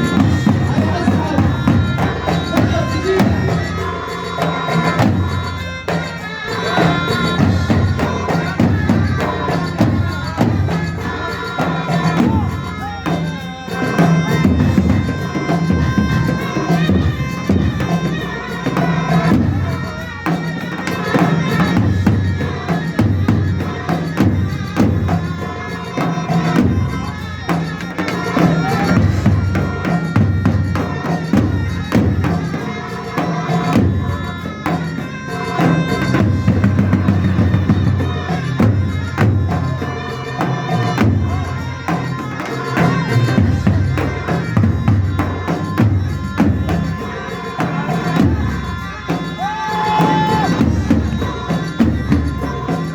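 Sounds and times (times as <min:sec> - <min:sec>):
reedy wind instrument melody: 0:00.0 - 0:52.9
steady drum beat: 0:00.0 - 0:52.9.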